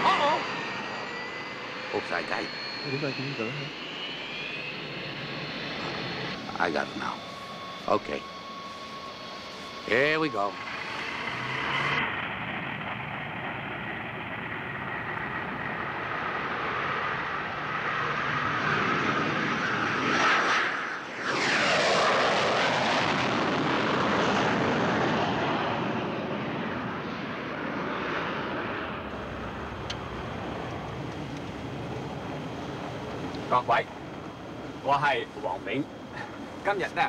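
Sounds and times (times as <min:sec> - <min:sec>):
jet engines at takeoff power: 0:00.0 - 0:37.0.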